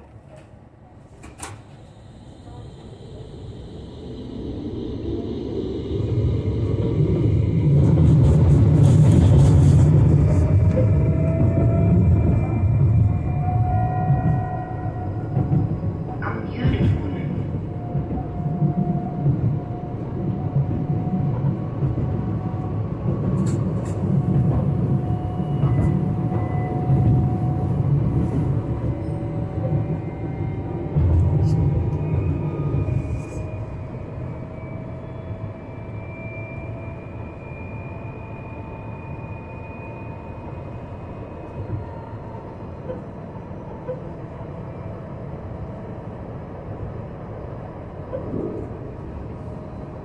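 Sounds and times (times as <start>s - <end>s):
tram rail rumble: 0.0s - 50.0s.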